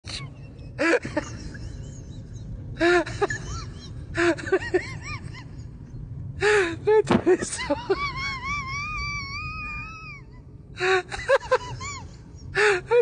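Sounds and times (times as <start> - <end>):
low rumble: 0.1 - 13.0.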